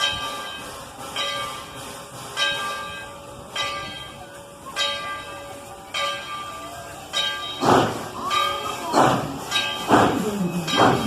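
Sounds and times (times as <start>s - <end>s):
locomotive bell ringing: 0.0s - 11.0s.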